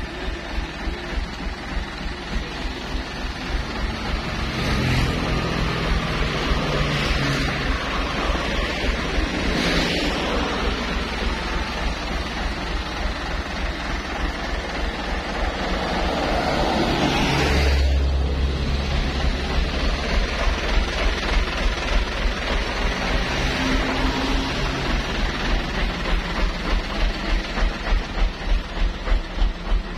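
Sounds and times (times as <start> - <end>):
heavy vehicle traffic rumbling: 0.0 - 29.9.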